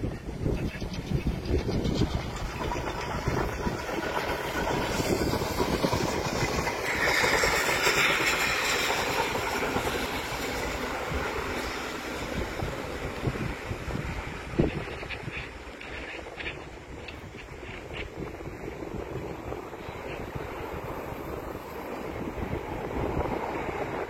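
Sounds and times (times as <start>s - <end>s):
train running on rails: 0.0s - 24.0s.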